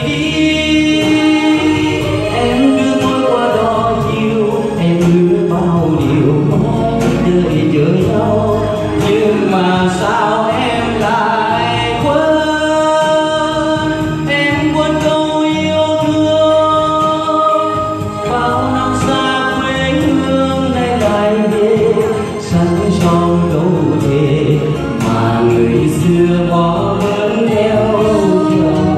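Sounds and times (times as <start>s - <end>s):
instrumental backing music: 0.0s - 28.9s
man singing into microphone: 0.0s - 28.9s.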